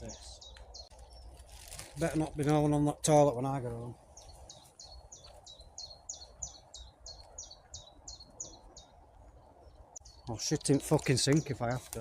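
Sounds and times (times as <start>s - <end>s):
small songbird calling: 0.0s - 2.3s, 3.4s - 11.9s.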